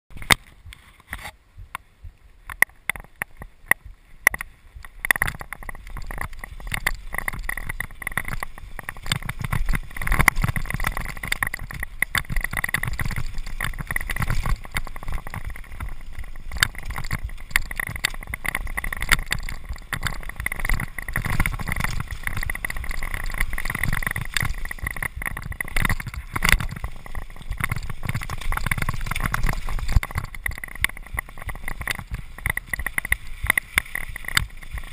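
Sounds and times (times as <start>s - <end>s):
scattered clicks and knocks: 0.1s - 1.8s, 2.4s - 34.9s
bike tyres rumbling on dirt: 0.1s - 34.9s
bike frame rattling: 2.5s - 34.9s.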